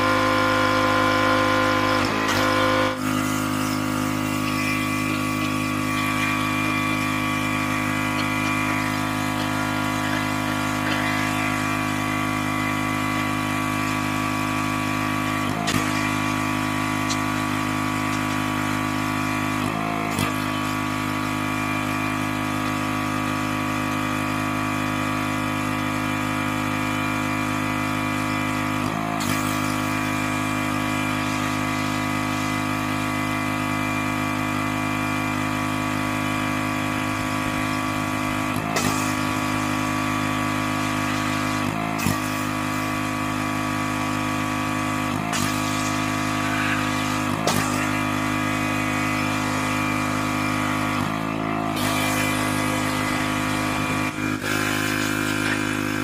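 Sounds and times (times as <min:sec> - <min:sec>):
pressure washer engine running: 0:00.0 - 0:56.0.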